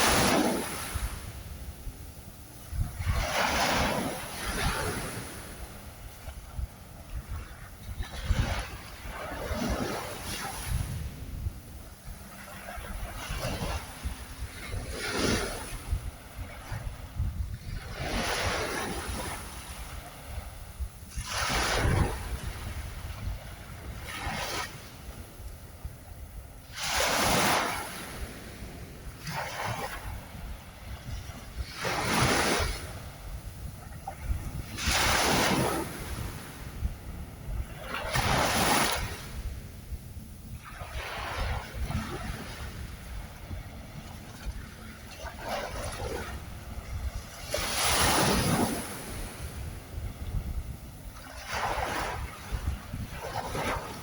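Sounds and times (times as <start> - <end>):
ocean waves breaking on shore: 0.0 - 54.0
wind rumble on microphone: 0.0 - 54.0.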